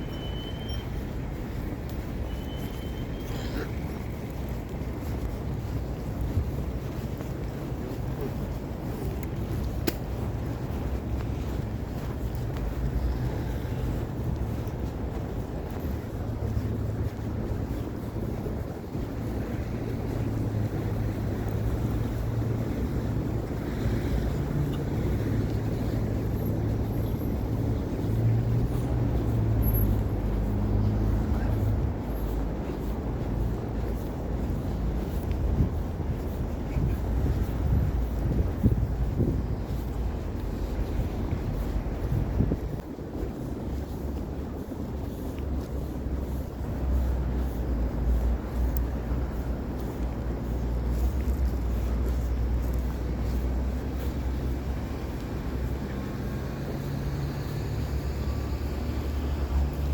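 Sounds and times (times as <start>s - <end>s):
low road rumble: 0.0s - 59.9s.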